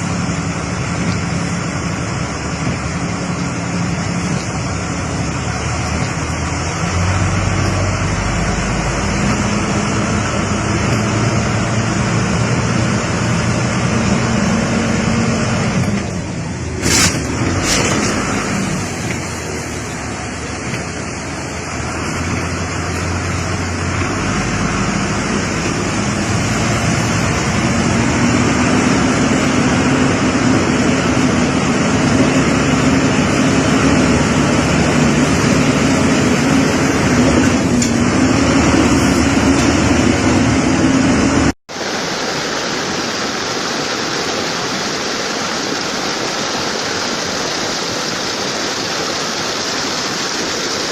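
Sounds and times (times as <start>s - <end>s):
low engine hum: 0.0s - 42.1s
floodwater rushing: 0.0s - 50.9s
storm water and rain rushing: 0.0s - 50.9s.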